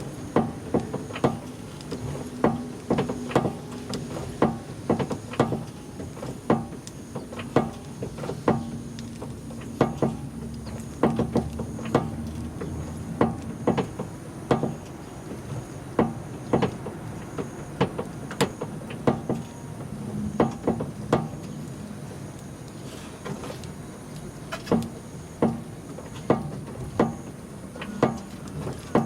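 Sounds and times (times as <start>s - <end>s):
low engine hum: 0.0s - 29.0s
car clunks and knocks: 0.3s - 21.6s, 24.5s - 29.0s.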